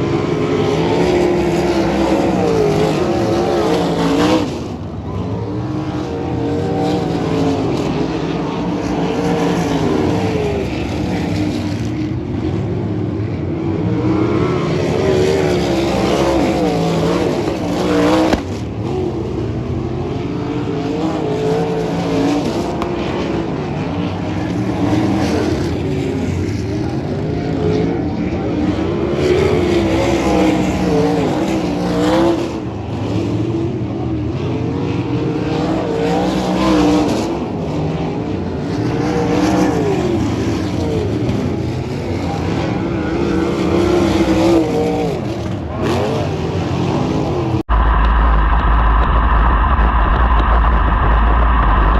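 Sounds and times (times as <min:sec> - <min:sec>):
race car engines: 0:00.0 - 0:51.9.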